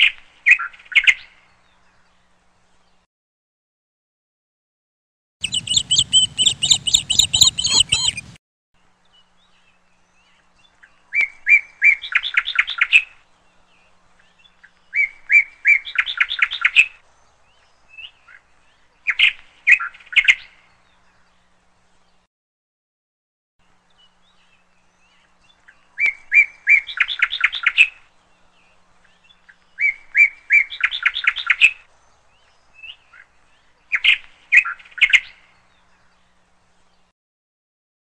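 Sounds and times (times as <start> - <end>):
songbird singing: 0.0 - 3.0, 5.4 - 22.3, 23.6 - 37.1
low background noise: 0.1 - 3.0, 5.4 - 22.3, 23.6 - 37.1.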